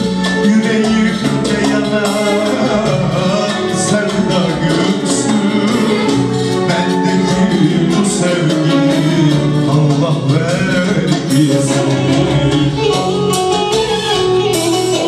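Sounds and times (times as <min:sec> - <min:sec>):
electronic keyboard band music: 0:00.0 - 0:15.0
person singing: 0:00.0 - 0:15.0.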